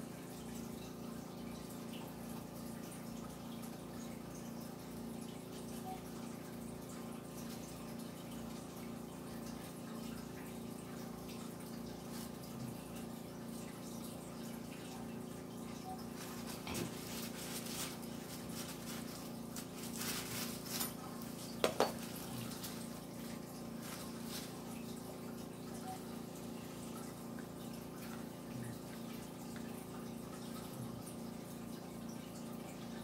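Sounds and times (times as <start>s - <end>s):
background hum and hiss: 0.0s - 33.0s.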